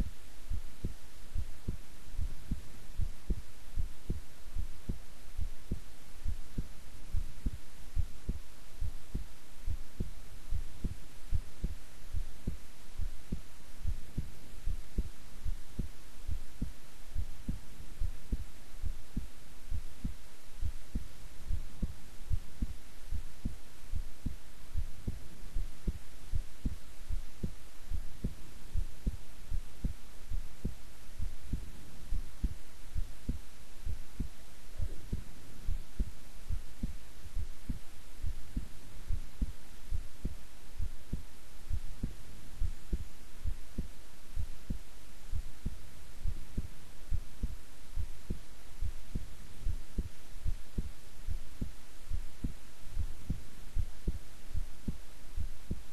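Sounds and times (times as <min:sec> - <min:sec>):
faint low hum: 0:00.0 - 0:55.9
heartbeat thumps: 0:00.0 - 0:55.9.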